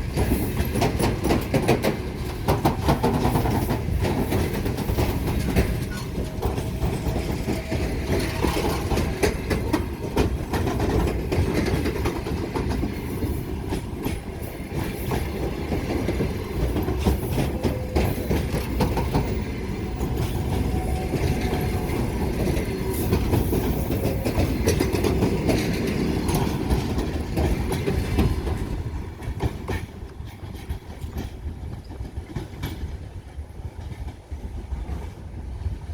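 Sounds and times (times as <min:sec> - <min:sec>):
train wheels clattering: 0:00.0 - 0:35.9.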